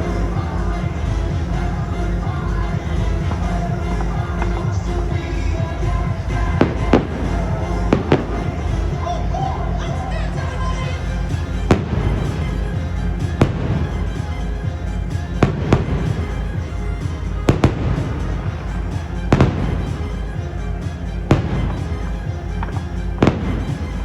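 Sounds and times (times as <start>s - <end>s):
fireworks bangs: 0.0s - 10.3s, 11.5s - 14.4s, 15.4s - 16.5s, 17.1s - 20.4s, 21.3s - 24.0s
loud show music: 0.0s - 24.0s.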